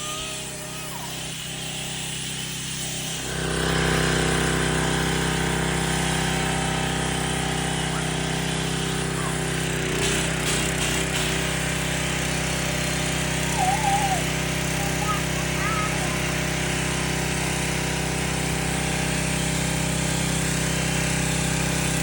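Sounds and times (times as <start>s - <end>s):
pressure washer running: 0.0s - 22.0s.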